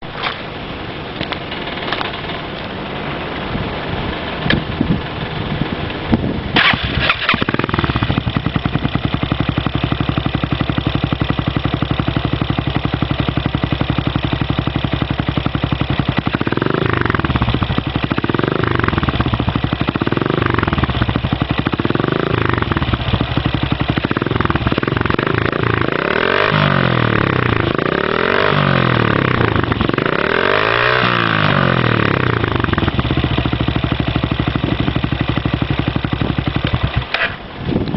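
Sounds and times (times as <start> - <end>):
single-cylinder engine idling and revving: 0.0 - 37.9.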